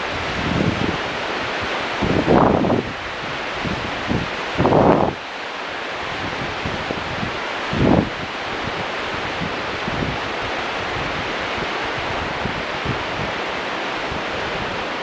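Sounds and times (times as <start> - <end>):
wind buffeting microphone: 0.0 - 5.2, 6.0 - 15.0
whitewater rapids rushing: 0.0 - 15.0.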